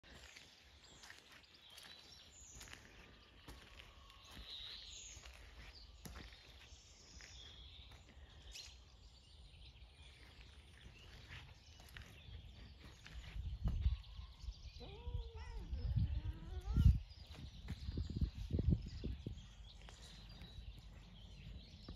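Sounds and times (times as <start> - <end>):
distant bird chirps: 0.1 - 21.9.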